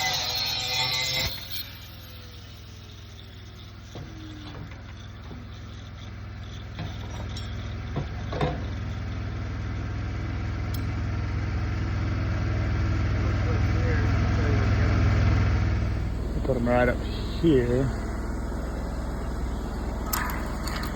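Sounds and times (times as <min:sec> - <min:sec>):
engine running with low hum: 0:00.0 - 0:20.9.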